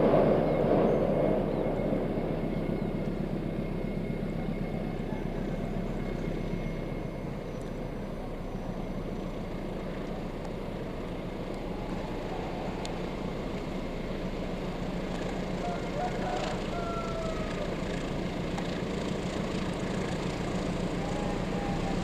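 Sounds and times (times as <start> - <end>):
distant train engine rumbling: 0.0 - 22.0.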